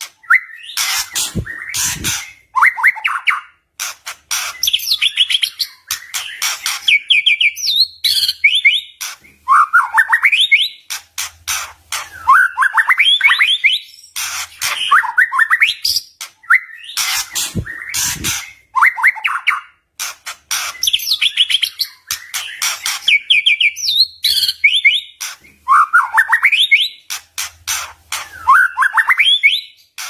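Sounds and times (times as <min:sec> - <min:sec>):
bird whistling song: 0:00.0 - 0:03.6, 0:04.4 - 0:10.9, 0:12.0 - 0:19.8, 0:20.6 - 0:27.1, 0:28.1 - 0:30.0.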